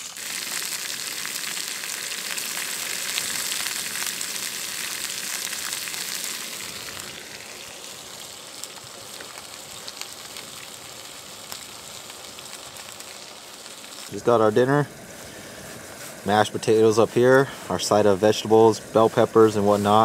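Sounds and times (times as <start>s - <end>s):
vegetables sizzling in a frying pan: 0.0s - 20.0s.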